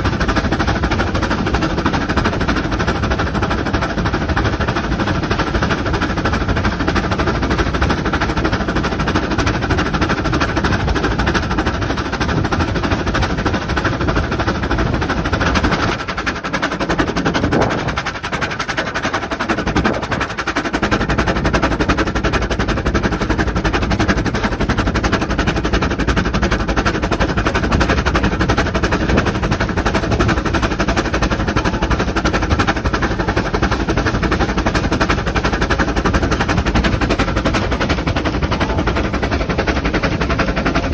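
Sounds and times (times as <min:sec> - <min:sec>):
running-gear and rail clatter: 0:00.0 - 0:40.9
steam locomotive exhaust beats: 0:00.0 - 0:40.9.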